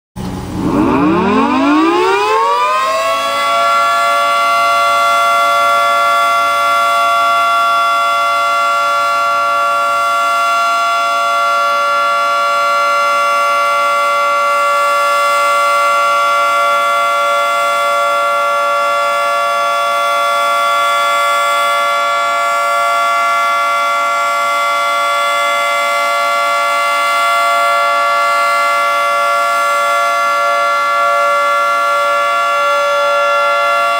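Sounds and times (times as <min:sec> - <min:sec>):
two-tone warning siren: 0:00.2 - 0:33.9.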